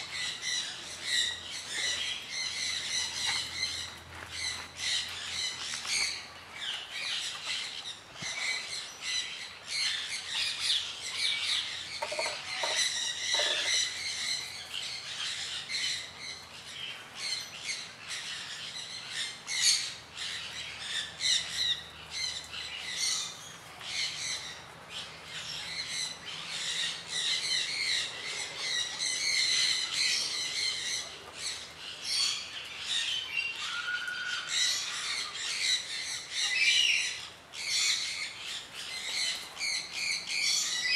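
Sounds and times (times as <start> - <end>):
chorus of bird calls: 0.0 - 40.9.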